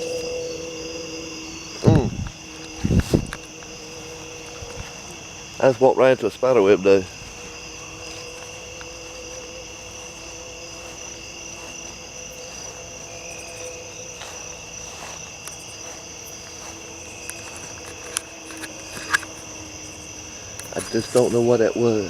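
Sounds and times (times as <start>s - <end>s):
crickets and insects trilling: 0.0s - 22.0s.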